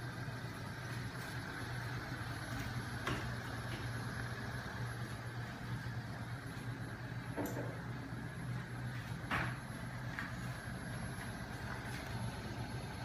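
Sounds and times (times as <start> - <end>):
engine mechanical hum: 0.0 - 13.0.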